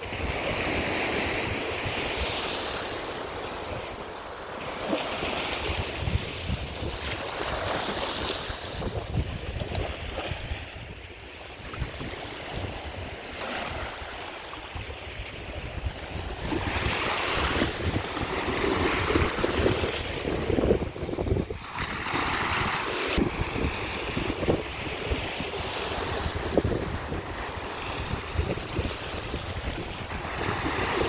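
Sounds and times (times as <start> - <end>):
small waves breaking on shore: 0.0 - 31.0
wind rumbling on microphone: 0.0 - 31.0.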